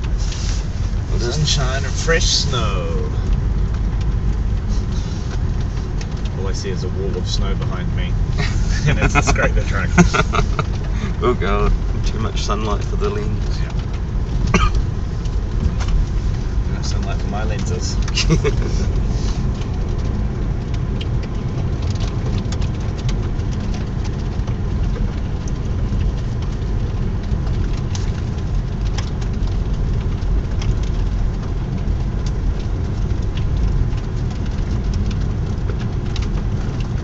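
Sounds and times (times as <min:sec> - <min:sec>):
engine and tyres rumbling: 0:00.0 - 0:37.0
light clicks and ticks: 0:00.0 - 0:37.0.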